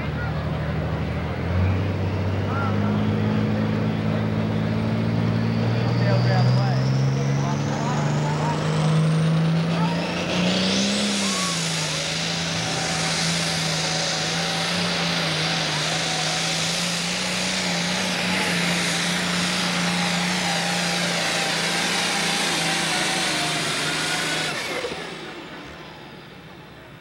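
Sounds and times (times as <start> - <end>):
diesel engine running flat out: 0.0 - 27.0.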